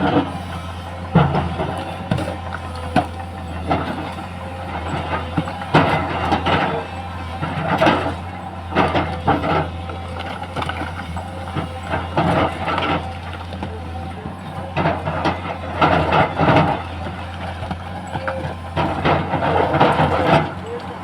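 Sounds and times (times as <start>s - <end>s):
excavator running: 0.0s - 21.0s.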